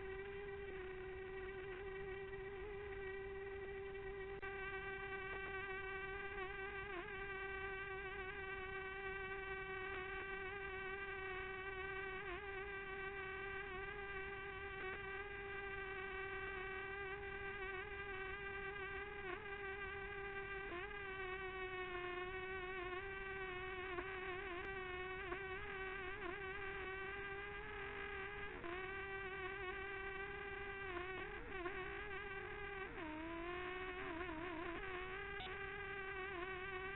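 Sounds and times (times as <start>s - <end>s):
drone propellers buzzing: 0.0s - 36.9s.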